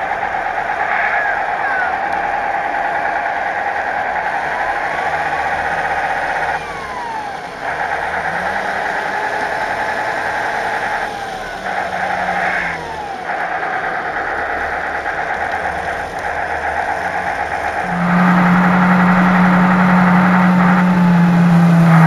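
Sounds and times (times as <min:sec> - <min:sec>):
simulated diesel engine: 0:00.0 - 0:22.0
sliding whines: 0:00.0 - 0:22.0.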